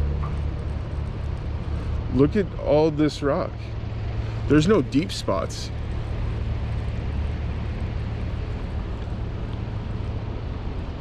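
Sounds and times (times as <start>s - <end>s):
construction machinery engine rumble: 0.0s - 11.0s.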